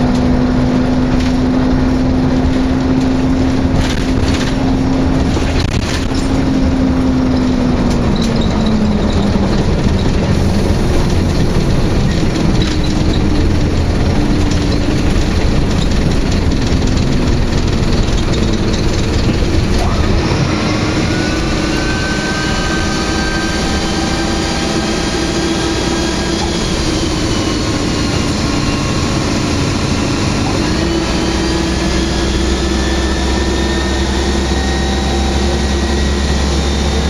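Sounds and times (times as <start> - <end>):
bus engine rumble: 0.0 - 37.0
faint drivetrain whine: 0.0 - 37.0.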